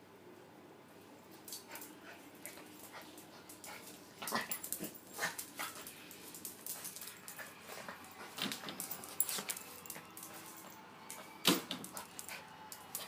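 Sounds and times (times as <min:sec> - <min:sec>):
paws scrabbling on tiled floor: 0:01.3 - 0:13.0.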